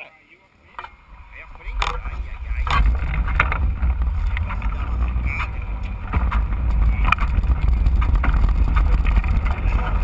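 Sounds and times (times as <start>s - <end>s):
wind rumbling on microphone: 0.6s - 10.0s
bike knocks and rattles: 0.7s - 10.0s.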